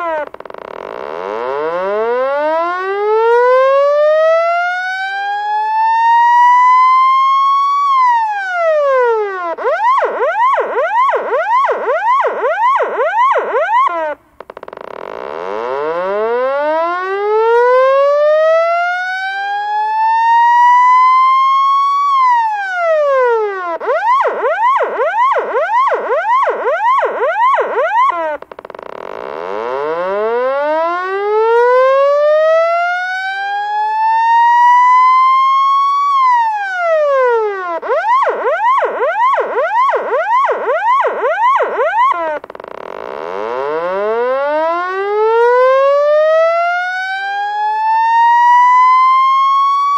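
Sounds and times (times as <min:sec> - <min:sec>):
police siren wail and yelp: 0:00.0 - 0:00.4, 0:01.2 - 0:14.2, 0:15.5 - 0:28.5, 0:29.2 - 0:49.9.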